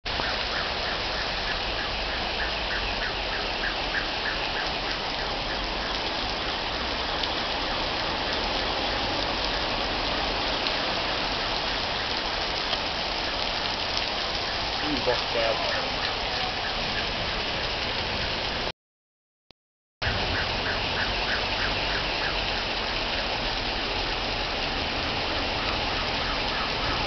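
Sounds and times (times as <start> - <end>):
heavy rain on pavement: 0.0 - 18.7, 20.0 - 27.0.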